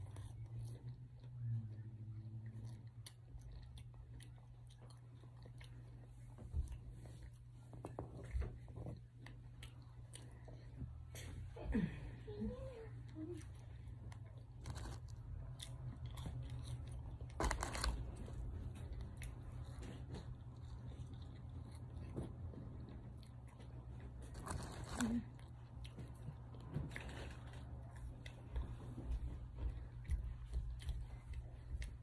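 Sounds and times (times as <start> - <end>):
chewing fries: 0.0 - 11.5, 12.4 - 32.0
steady low hum: 0.0 - 32.0.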